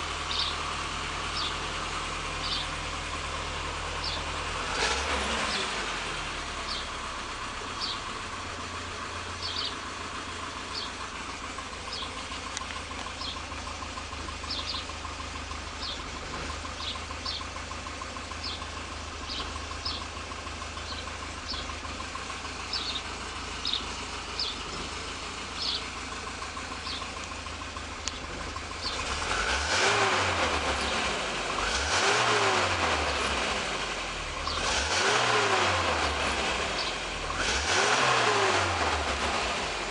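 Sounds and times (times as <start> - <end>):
car engine idling: 0.0 - 39.9
engine revving: 0.0 - 39.9.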